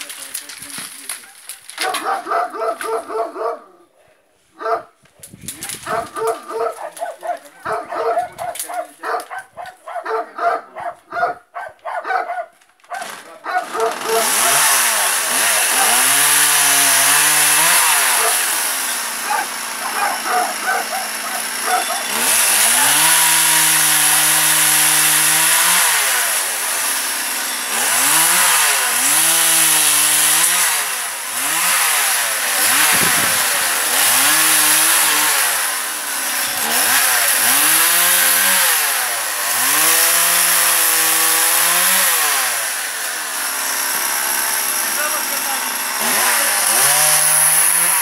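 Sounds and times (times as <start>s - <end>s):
chainsaw idling and revving: 0.0s - 3.4s, 5.5s - 10.9s, 13.0s - 48.0s.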